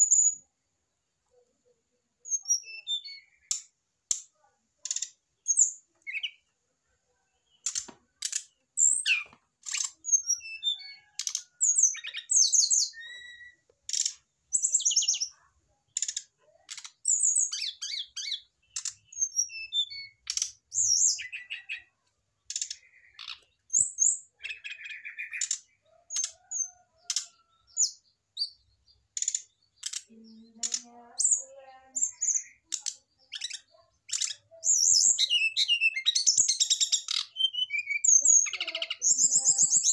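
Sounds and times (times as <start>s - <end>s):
bird clicking and chirping: 3.4s - 6.4s, 7.6s - 10.3s, 11.0s - 15.2s, 15.9s - 19.4s, 20.1s - 30.9s, 32.0s - 39.9s.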